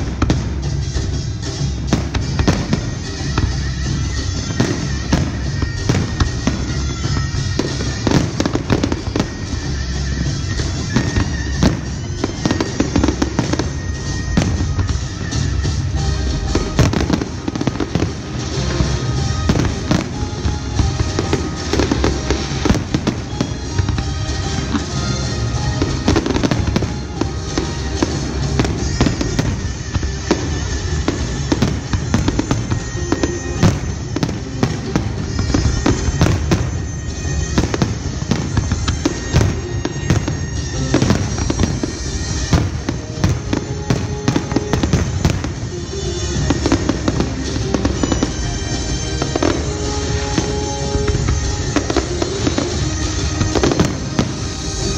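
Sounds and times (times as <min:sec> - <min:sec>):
music playing: 0:00.0 - 0:54.9.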